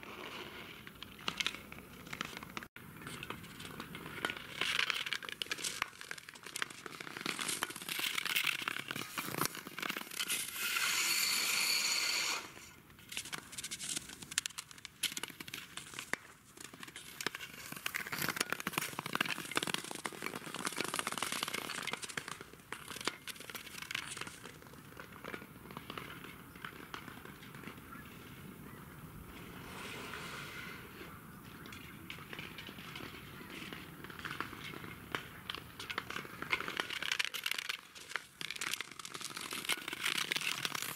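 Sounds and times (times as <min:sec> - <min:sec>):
thin ice crackling and scraping: 0:00.0 - 0:40.9.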